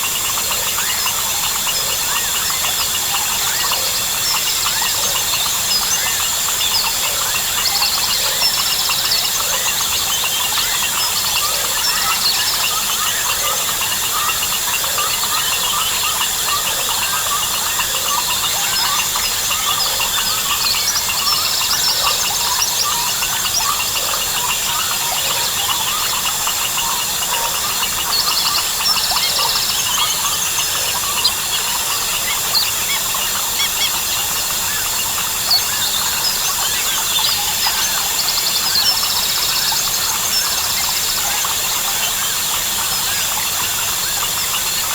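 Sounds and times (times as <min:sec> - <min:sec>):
frogs and birds chirping: 0:00.0 - 0:44.9
insect drone: 0:00.0 - 0:44.9.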